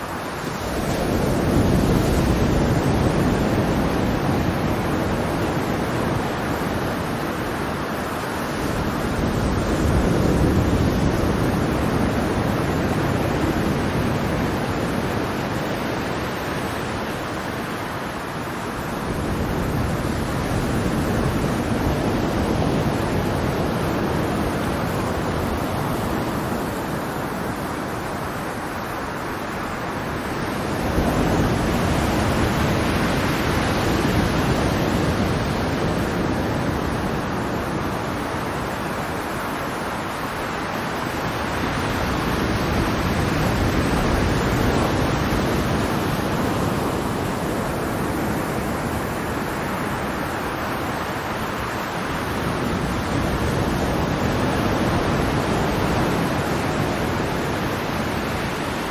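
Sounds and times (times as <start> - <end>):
ocean waves surf: 0.0 - 58.9.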